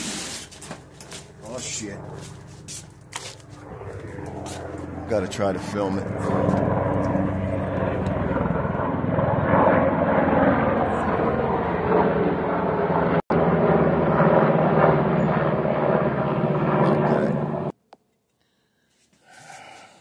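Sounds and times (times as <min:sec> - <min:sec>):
helicopter engine noise: 0:00.0 - 0:17.8
helicopter rotor blades beating: 0:00.0 - 0:17.8.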